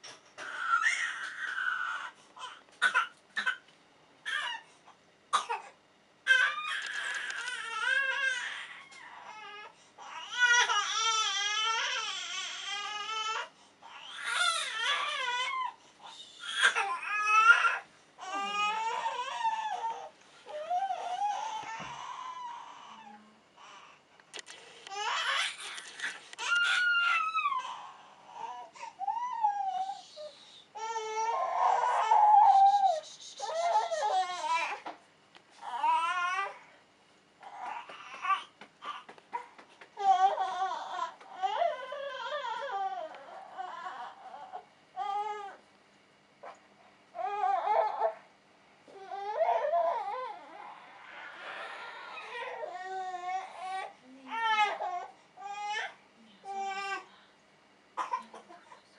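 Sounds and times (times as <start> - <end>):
baby crying: 0.4 - 3.6, 4.3 - 4.7, 6.3 - 23.8, 24.9 - 34.9, 35.6 - 36.6, 37.4 - 45.6, 47.2 - 48.2, 48.9 - 57.1.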